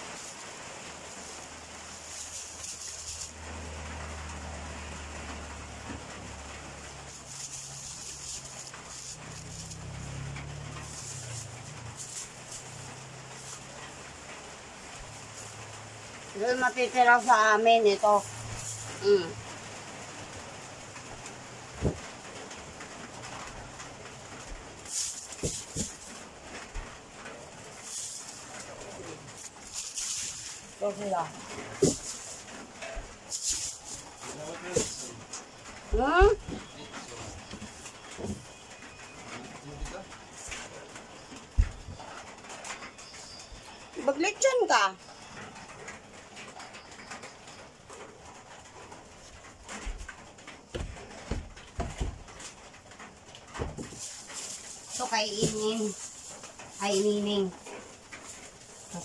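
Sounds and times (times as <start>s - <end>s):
plastic bag rustling: 0.0s - 44.6s, 47.2s - 59.0s.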